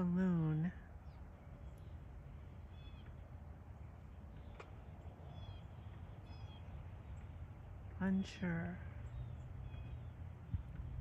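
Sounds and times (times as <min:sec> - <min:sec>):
low background rumble and hiss: 0:00.0 - 0:11.0
faint high bird chirps: 0:01.0 - 0:11.0.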